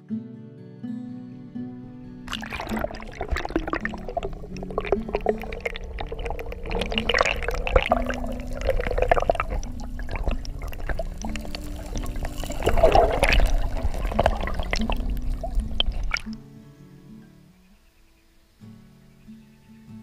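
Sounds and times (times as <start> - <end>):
underwater river gurgling: 2.2 - 19.2.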